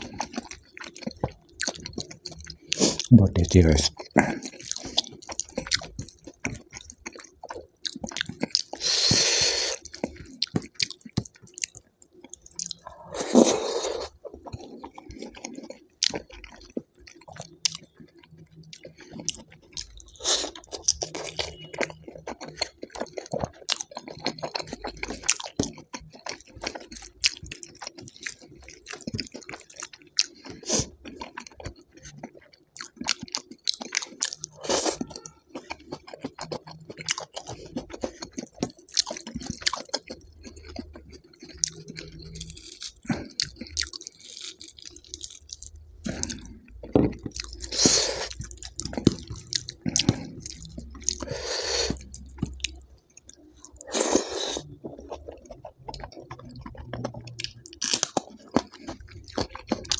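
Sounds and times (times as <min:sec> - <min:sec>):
food crunch: 0:00.0 - 0:59.9
wet chewing: 0:00.0 - 0:59.9.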